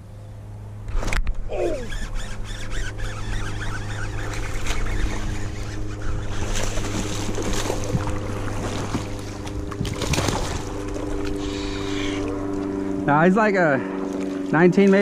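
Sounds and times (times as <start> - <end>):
steady low hum: 0.0 - 15.0
water rushing around a kayak: 2.1 - 15.0.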